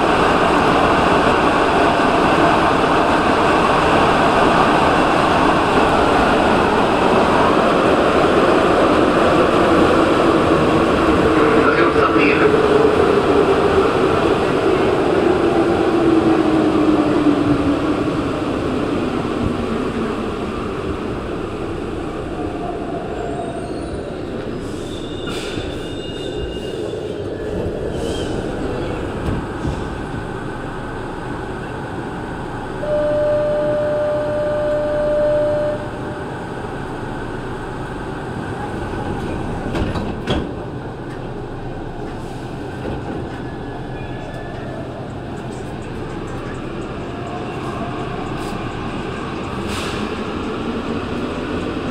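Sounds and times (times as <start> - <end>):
train running through tunnel: 0.0 - 51.9.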